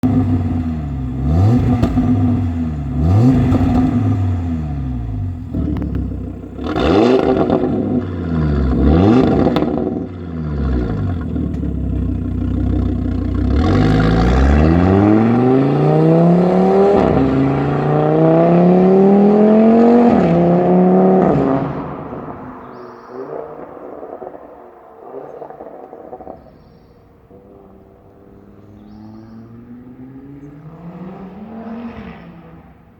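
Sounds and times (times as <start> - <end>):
car engine accelerating hard: 0.0 - 24.6, 27.3 - 32.9
car engine revving: 0.0 - 32.9.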